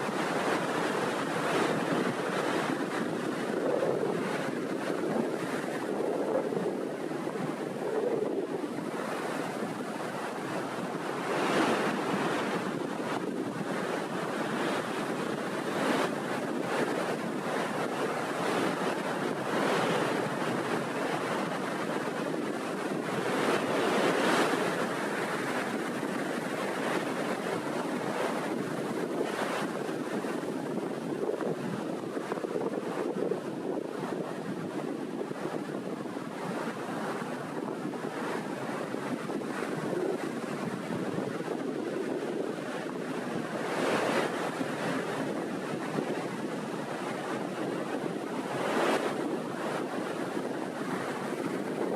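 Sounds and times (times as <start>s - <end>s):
sea waves breaking on shore: 0.0s - 51.9s
wind buffeting microphone: 0.0s - 51.9s.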